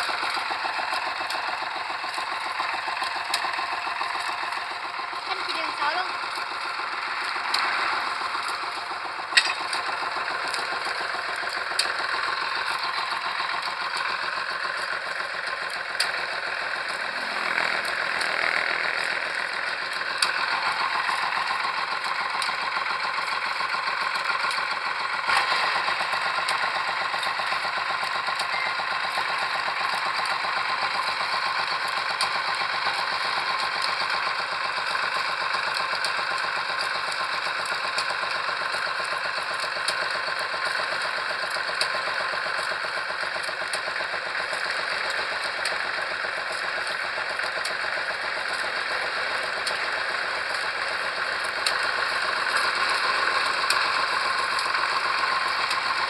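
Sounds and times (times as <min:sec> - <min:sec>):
pile-driving rig engine running: 0:00.0 - 0:56.0.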